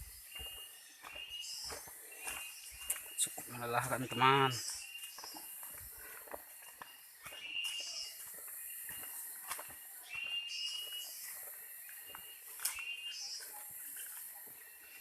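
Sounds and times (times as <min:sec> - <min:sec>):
forest insects buzzing: 0:00.0 - 0:15.0.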